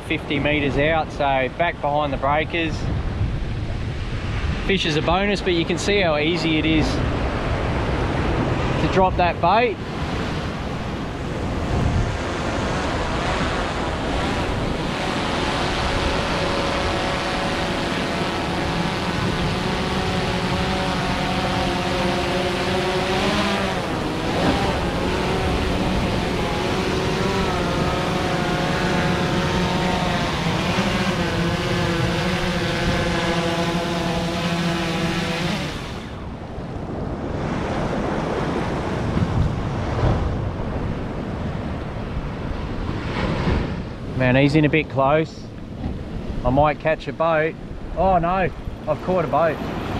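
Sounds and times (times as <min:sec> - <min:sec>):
surf on rocks: 0:00.3 - 0:49.9
drone rotors humming: 0:05.5 - 0:43.0, 0:45.5 - 0:49.9.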